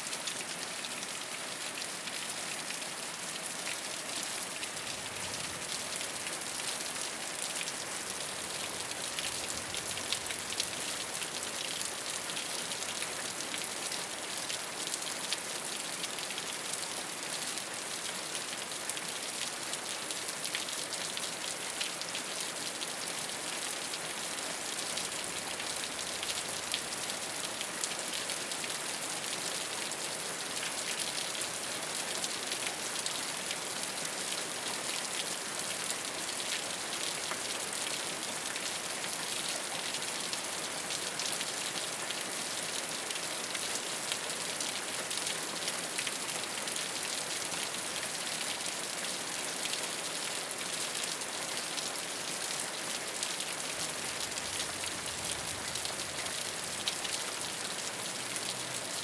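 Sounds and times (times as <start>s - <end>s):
rain falling on a rooftop: 0.0s - 59.0s.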